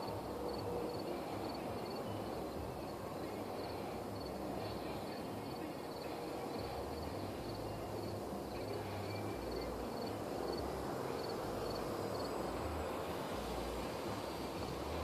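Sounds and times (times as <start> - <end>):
insect chirping: 0.0 - 15.0
low rushing hum: 0.0 - 15.0.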